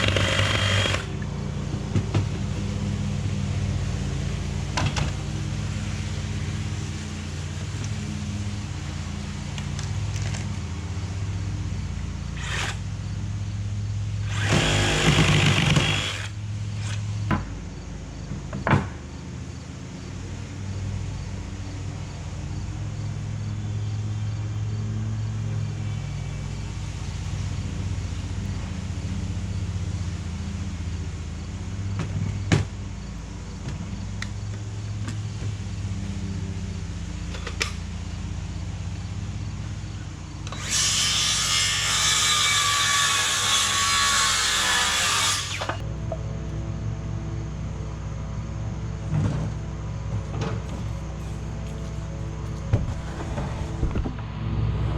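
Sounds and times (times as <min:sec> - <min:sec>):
steady motor hum: 0:00.0 - 0:54.9.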